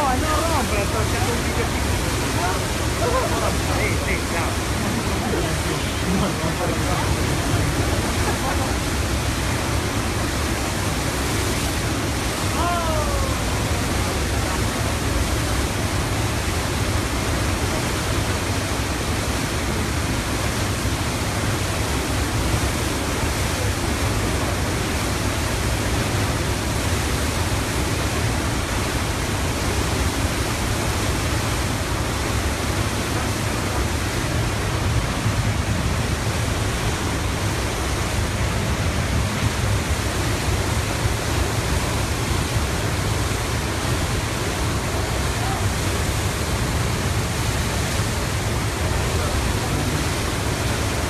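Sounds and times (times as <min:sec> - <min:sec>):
floodwater rushing: 0:00.0 - 0:51.0.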